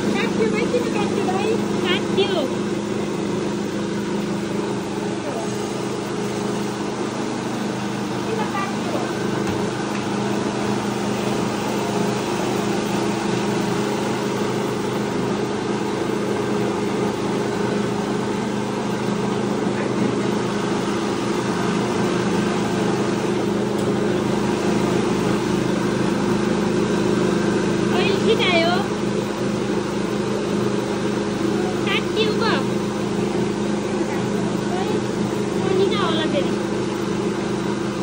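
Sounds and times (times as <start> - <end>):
rice mill machine hum: 0.0 - 38.0.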